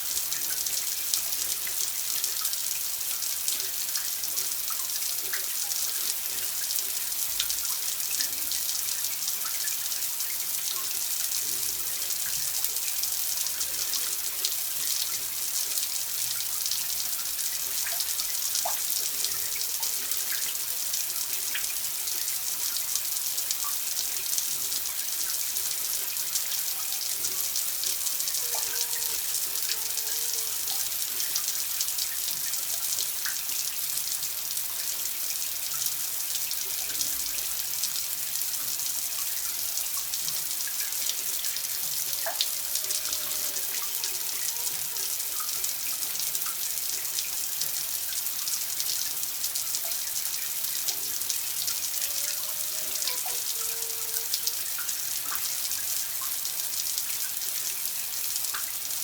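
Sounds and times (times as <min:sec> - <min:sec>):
water running from a tap: 0:00.0 - 0:59.0
water splashes and drips: 0:00.0 - 0:59.0.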